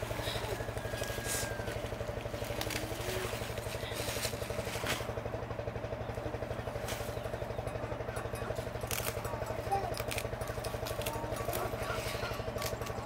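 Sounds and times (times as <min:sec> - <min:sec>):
leafy plants rustling and snapping: 0:00.0 - 0:05.4, 0:06.1 - 0:07.4, 0:08.5 - 0:13.0
small engine chugging: 0:00.0 - 0:13.0.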